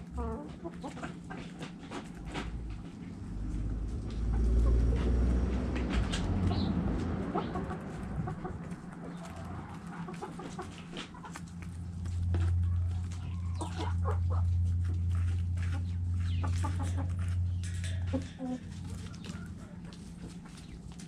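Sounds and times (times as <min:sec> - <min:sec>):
chickens clucking: 0:00.0 - 0:21.0
steady low hum: 0:00.0 - 0:21.0.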